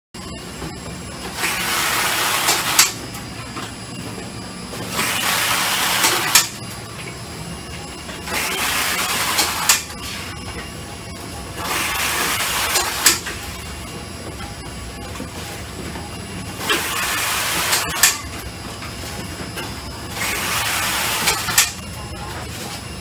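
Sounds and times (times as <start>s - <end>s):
conveyor hum: 0.2s - 23.0s.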